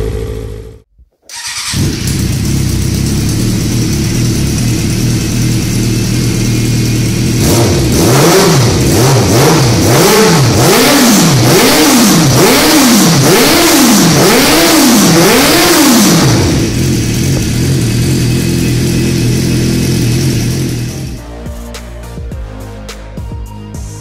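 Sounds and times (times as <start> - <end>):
engine idling: 0.0 - 11.6, 12.2 - 21.2
engine revving: 0.0 - 21.2.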